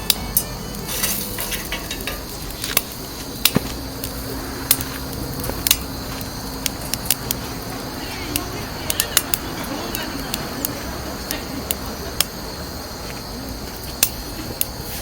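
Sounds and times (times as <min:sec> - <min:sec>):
steady fire hiss: 0:00.0 - 0:15.0
wood fire crackling and popping: 0:00.0 - 0:15.0.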